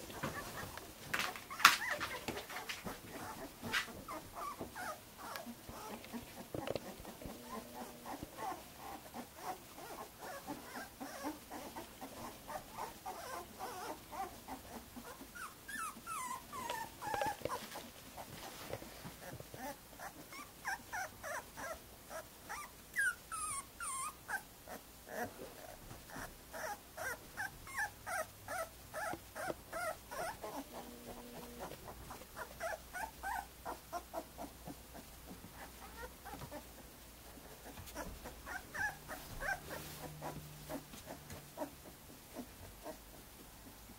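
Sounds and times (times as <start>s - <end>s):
puppy whining: 0.0s - 43.9s
puppies whimpering: 1.5s - 18.3s, 19.2s - 36.7s, 37.4s - 43.2s.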